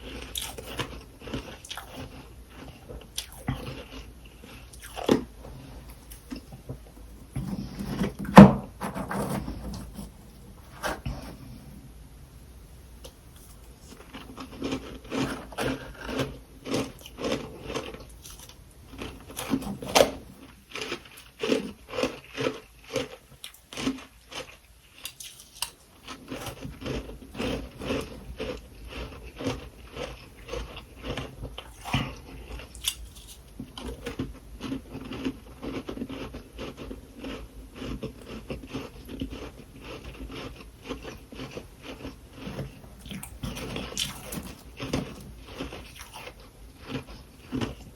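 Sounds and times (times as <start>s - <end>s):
person chewing crunchy frost: 0.0s - 11.8s, 13.1s - 47.9s.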